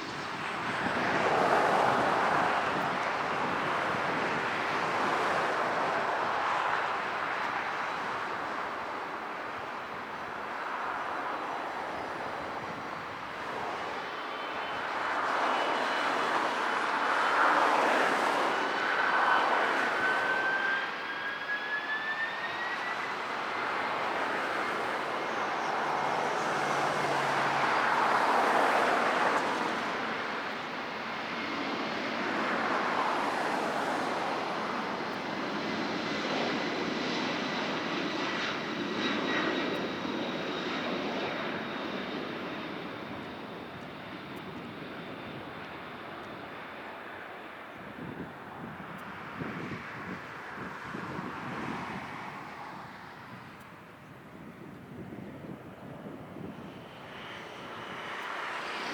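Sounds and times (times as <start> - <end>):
high engine whine: 0.0 - 58.9
jet engines running: 0.0 - 58.9.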